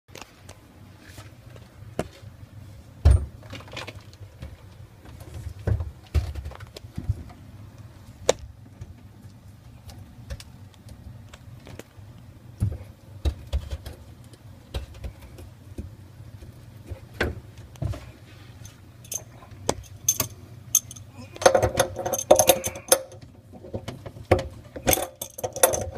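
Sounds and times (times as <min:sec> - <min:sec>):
steady low hum: 0:00.2 - 0:25.9.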